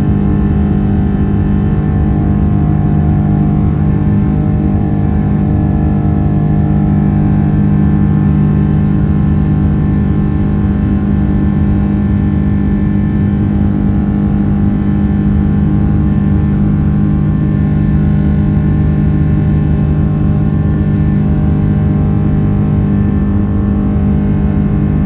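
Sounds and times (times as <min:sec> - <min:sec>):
jet engines droning in cabin: 0:00.0 - 0:25.0.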